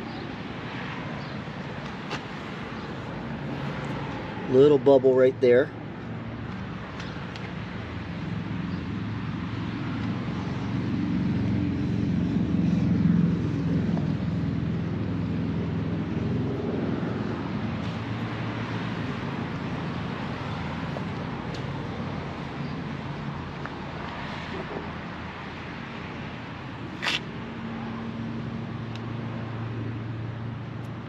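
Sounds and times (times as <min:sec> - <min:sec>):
passing vehicle engine rumble: 0:00.0 - 0:31.0.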